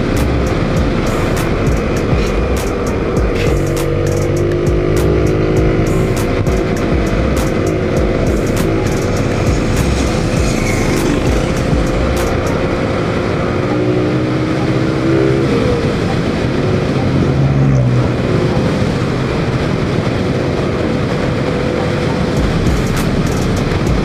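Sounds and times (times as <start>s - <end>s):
motorcycle engine drone: 0.0s - 24.0s
wind rush over microphone: 0.0s - 24.0s.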